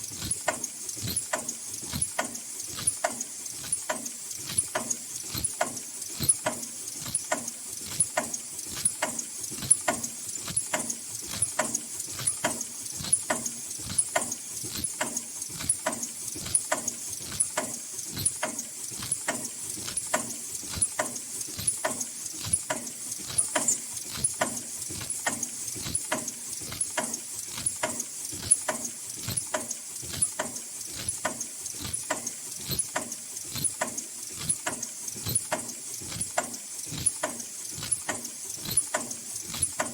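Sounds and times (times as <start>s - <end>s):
machine clacking rhythmically: 0.0s - 39.9s.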